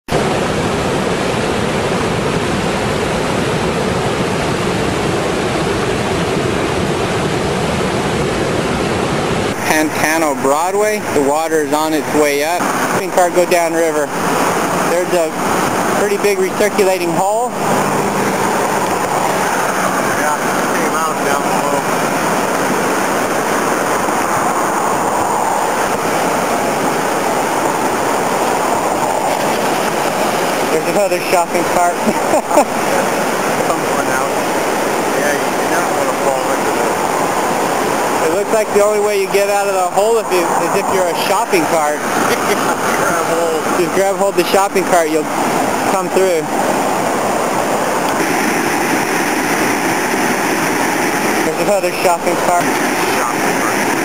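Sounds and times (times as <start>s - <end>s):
floodwater rushing in creek: 0.0s - 54.0s.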